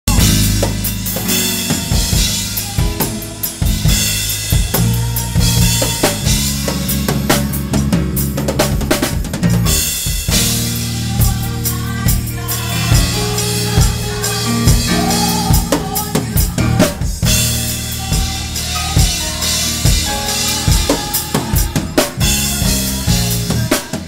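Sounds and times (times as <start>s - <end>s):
drum kit playing: 0.0s - 24.0s
electric bass guitar notes: 0.0s - 24.0s.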